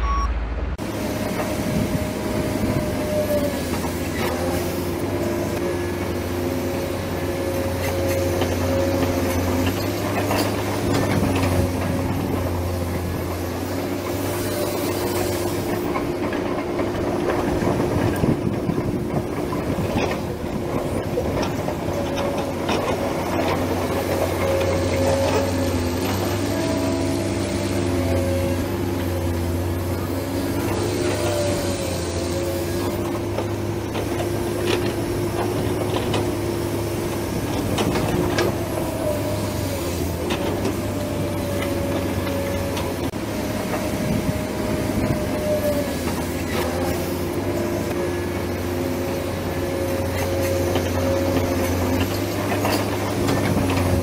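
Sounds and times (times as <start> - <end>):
model excavator motors humming: 0.0 - 54.0.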